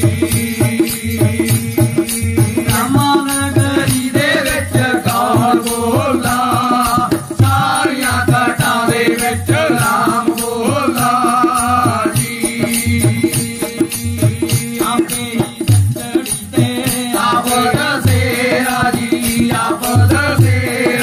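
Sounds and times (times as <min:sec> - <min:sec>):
hand drum beat: 0:00.0 - 0:21.0
man and boy singing: 0:00.0 - 0:21.0.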